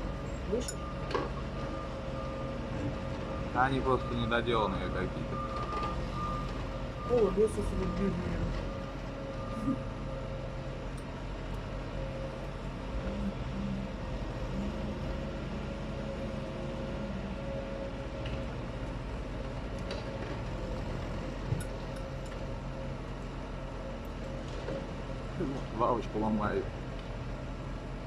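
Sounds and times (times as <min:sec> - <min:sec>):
truck engine humming: 0:00.0 - 0:28.0.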